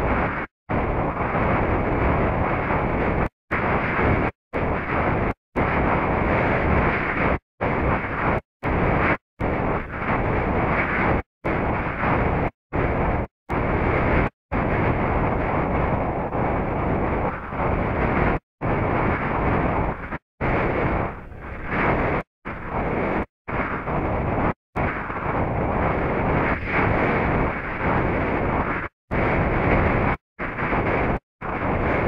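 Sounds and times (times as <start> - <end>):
wind rushing over microphone: 0.0 - 32.0.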